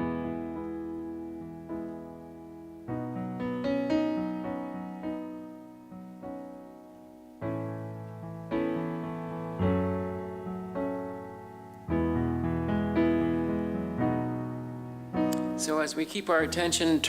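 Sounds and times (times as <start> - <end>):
keyboard playing gentle chords: 0.0 - 17.0.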